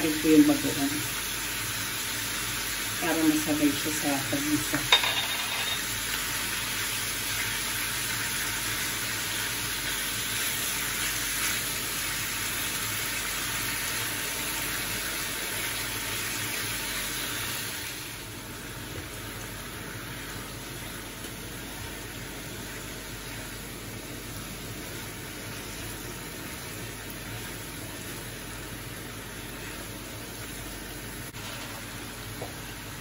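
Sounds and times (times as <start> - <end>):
pork sizzling in frying pan: 0.0 - 33.0.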